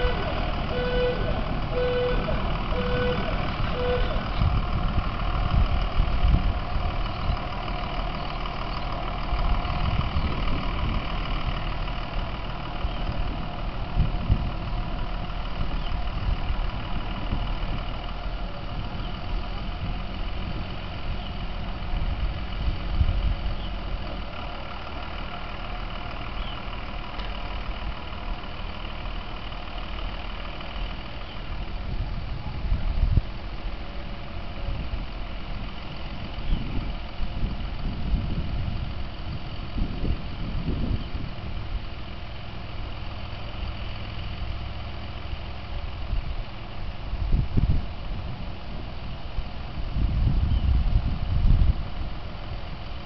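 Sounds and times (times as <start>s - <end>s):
railcar engine running: 0.0s - 53.0s.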